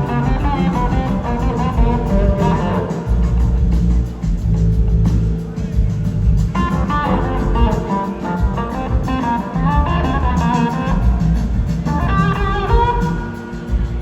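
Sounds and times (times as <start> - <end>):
electric guitar lead: 0.0 - 4.4, 6.4 - 14.0
bass guitar: 0.0 - 14.0
drums: 0.0 - 14.0.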